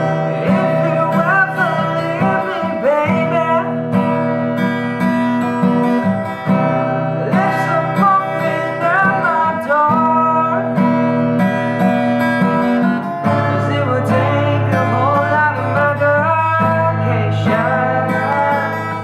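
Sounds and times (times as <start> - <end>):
person singing: 0.0 - 4.8, 6.9 - 11.2, 12.5 - 19.0
acoustic guitar: 0.0 - 19.0.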